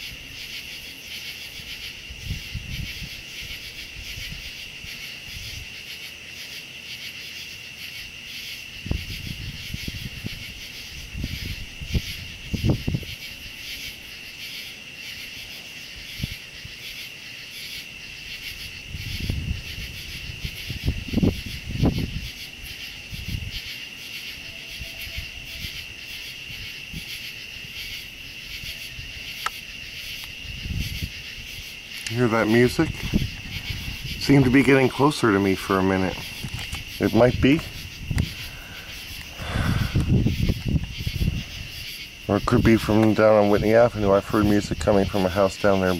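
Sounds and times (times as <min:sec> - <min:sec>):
night insects chirring: 0:00.0 - 0:45.9.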